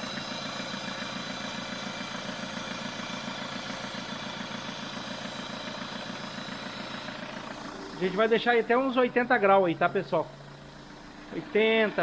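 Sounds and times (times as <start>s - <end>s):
turbocharged engine idling: 0.0s - 12.0s.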